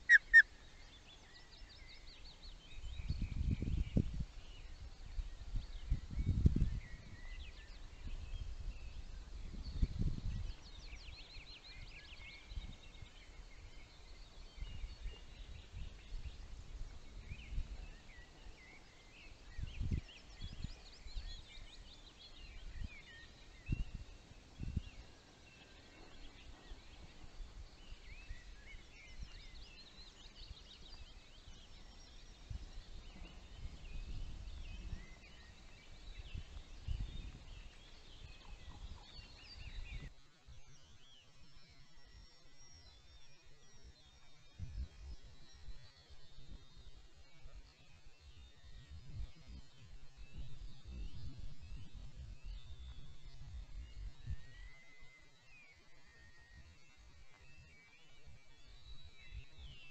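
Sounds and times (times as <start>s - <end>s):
small birds trilling and chirping: 0.0s - 59.9s.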